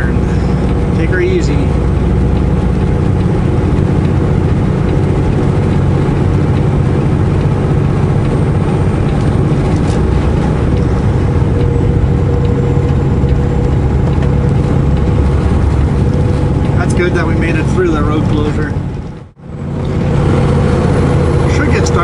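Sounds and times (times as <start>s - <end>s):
road noise: 0.0s - 22.0s
truck diesel engine running: 0.0s - 22.0s.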